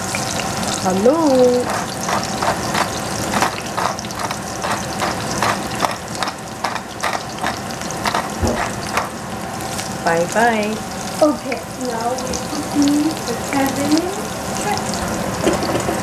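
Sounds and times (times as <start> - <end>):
scallions sizzling in hot oil: 0.0 - 16.0.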